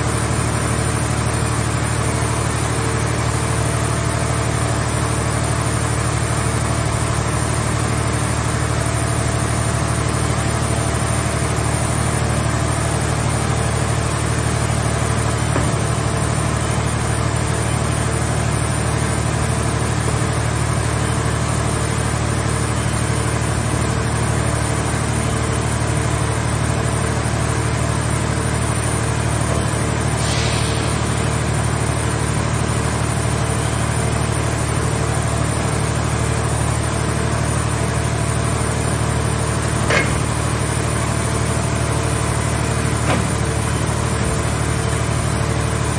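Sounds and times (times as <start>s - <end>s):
hydraulic power unit humming: 0.0s - 45.9s.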